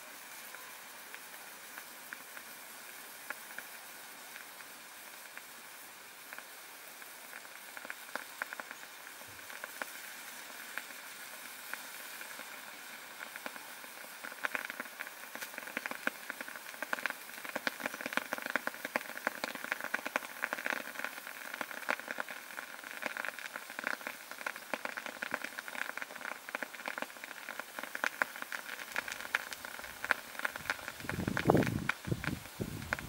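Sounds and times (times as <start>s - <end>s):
chemical mixture sizzling and popping: 0.0s - 33.0s.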